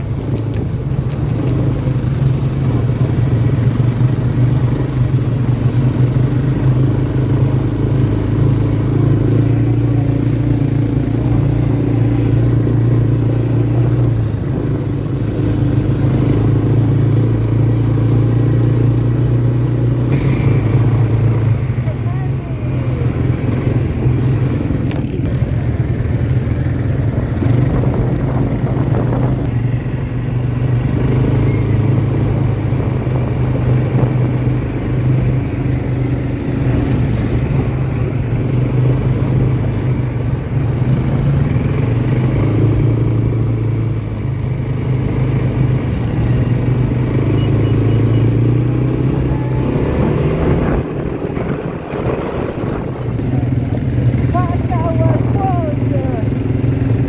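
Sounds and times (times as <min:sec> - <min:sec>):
quad bike engine droning: 0:00.0 - 0:57.0.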